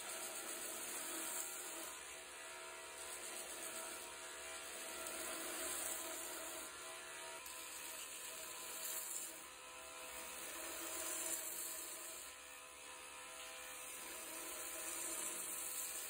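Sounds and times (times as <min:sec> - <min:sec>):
belt grinder sanding wood: 0:00.0 - 0:16.0.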